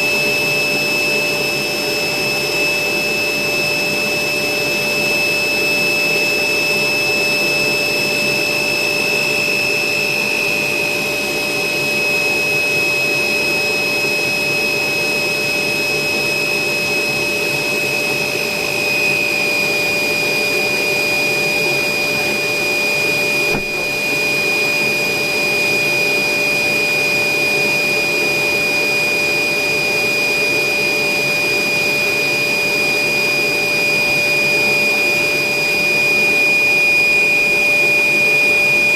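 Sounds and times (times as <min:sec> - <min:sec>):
electric air blower whining: 0:00.0 - 0:38.9.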